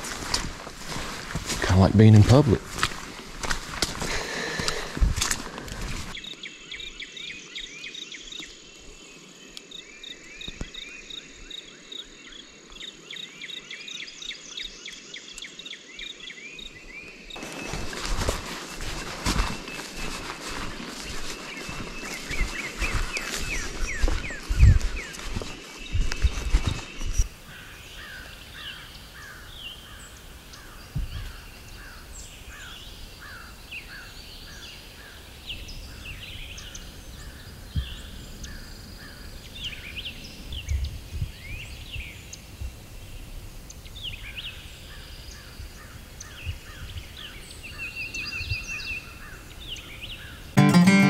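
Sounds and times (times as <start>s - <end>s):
songbirds chirping and whistling: 0.0s - 42.4s.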